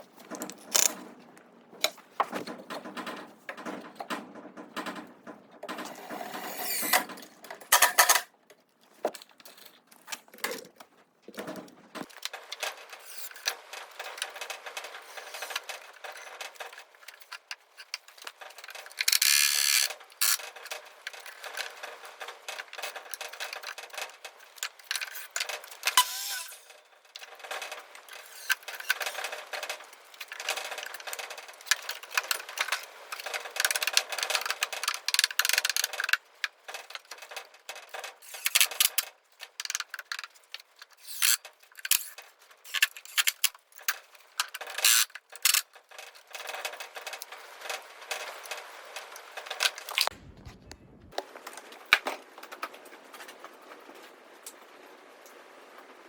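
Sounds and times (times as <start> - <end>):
clicking and rattling of hand work: 0.0 - 50.1.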